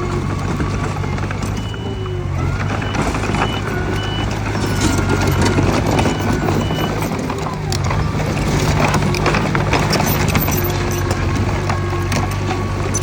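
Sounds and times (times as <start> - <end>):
bulldozer diesel engine running: 0.0 - 13.0
crawler tracks clanking and squeaking: 0.0 - 13.0.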